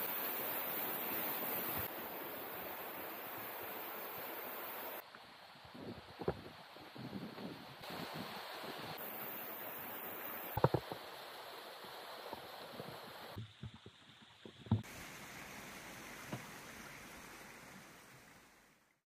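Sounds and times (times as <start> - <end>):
stream rushing: 0.0 - 13.4, 14.7 - 18.9.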